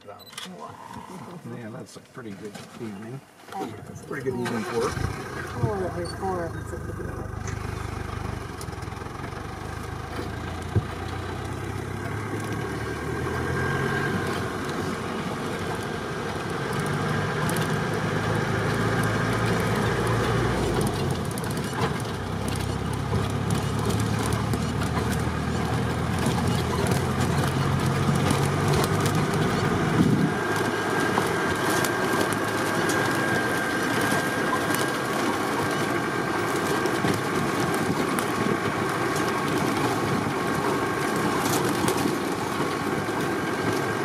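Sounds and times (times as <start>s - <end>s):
vehicle engine running: 1.4s - 44.0s.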